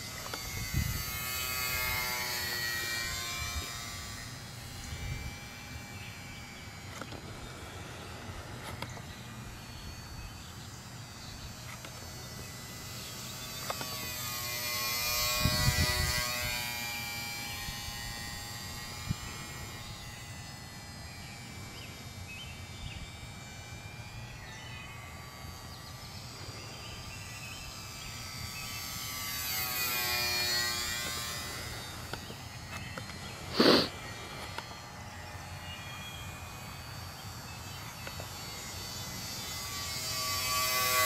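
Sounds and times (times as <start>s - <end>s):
model airplane motor whining: 0.0s - 41.0s.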